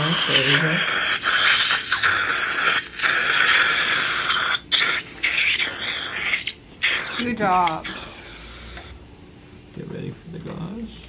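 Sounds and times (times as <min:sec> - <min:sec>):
dental water spray and suction: 0:00.0 - 0:08.9.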